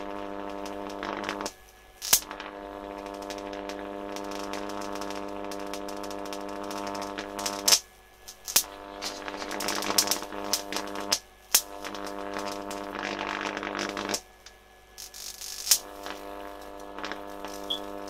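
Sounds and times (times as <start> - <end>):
electrical crackling: 0.0 - 18.0
sharp electrical crack: 0.0 - 18.0
transformers buzzing loudly: 0.0 - 18.0.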